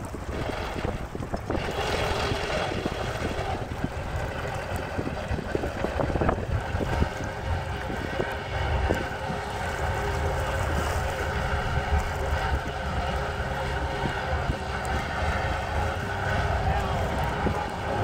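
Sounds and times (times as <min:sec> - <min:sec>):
water lapping at boat hull: 0:00.0 - 0:18.0
wind buffeting microphone: 0:00.0 - 0:18.0.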